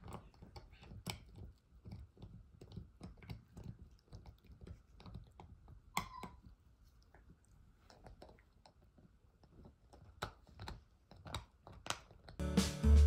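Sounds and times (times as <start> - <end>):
dog gnawing chew stick: 0.0 - 12.4.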